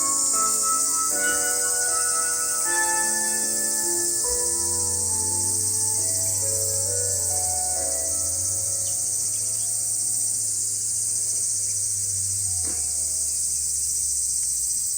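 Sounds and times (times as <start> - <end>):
low steady hum: 0.0 - 13.8
crickets trilling: 0.0 - 14.9.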